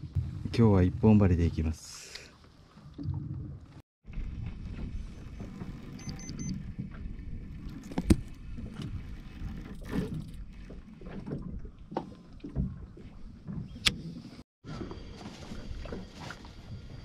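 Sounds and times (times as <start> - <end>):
low rumble of wind and water: 0.0 - 17.0.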